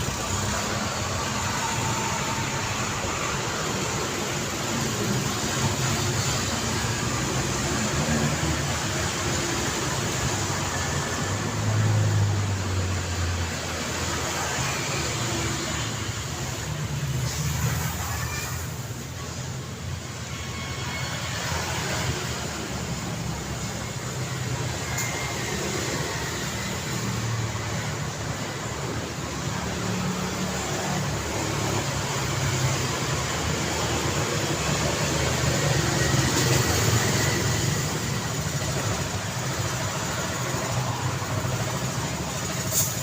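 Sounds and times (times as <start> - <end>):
tyre and road noise: 0.0 - 43.0
vehicles passing and idling: 0.0 - 43.0.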